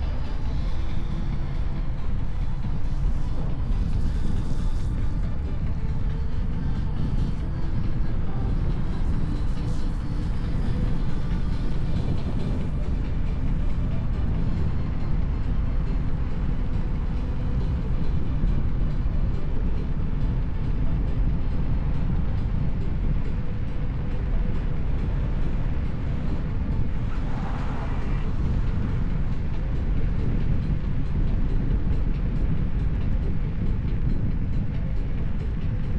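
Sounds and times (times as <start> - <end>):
wind rumble on microphone: 0.0 - 35.9.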